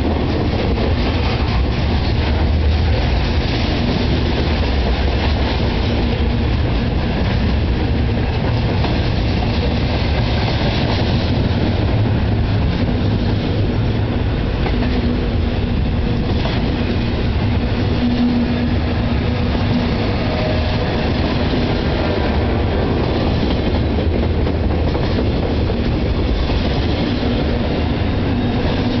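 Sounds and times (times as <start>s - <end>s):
steel wheels rumbling on rails: 0.0s - 29.0s.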